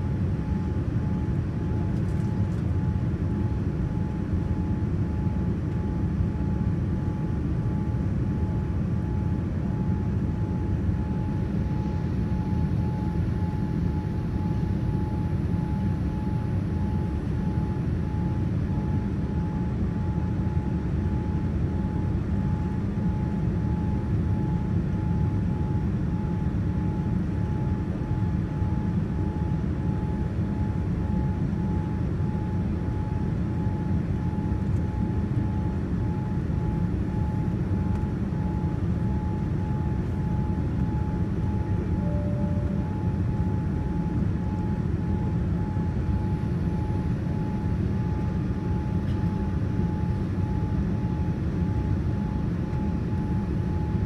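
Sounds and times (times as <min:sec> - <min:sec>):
airliner engine and airflow rumble: 0:00.0 - 0:54.0
faint high whine: 0:00.0 - 0:54.0.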